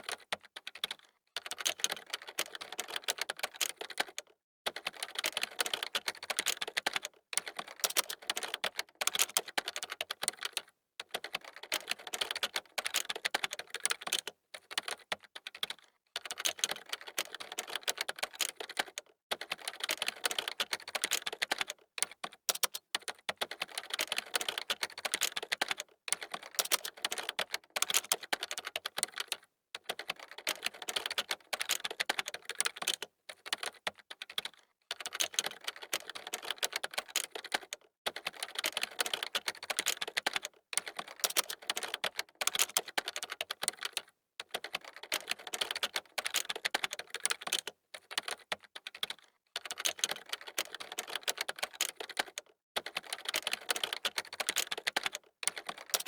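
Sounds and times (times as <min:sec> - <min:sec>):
computer keyboard typing: 0:00.0 - 0:56.0.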